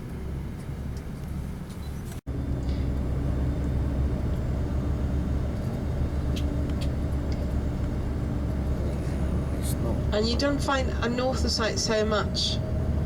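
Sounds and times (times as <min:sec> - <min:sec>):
tour coach engine and road drone: 0:00.0 - 0:13.0.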